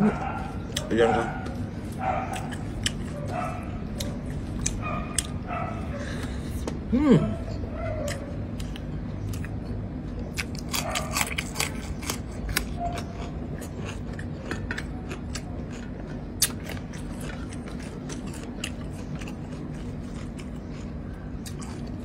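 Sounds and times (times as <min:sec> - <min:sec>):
chewing and crunching vegetable: 0:00.0 - 0:22.0.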